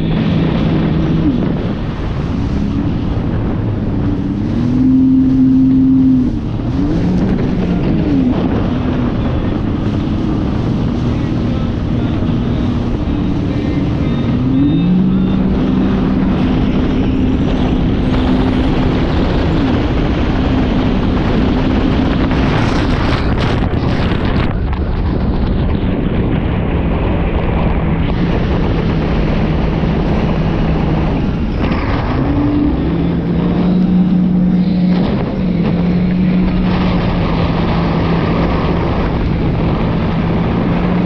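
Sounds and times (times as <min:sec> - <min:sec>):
jet ski engine revving: 0:00.0 - 0:24.4, 0:28.0 - 0:41.0
rushing water: 0:00.0 - 0:26.2, 0:26.8 - 0:41.0
wind buffeting microphone: 0:00.0 - 0:41.0.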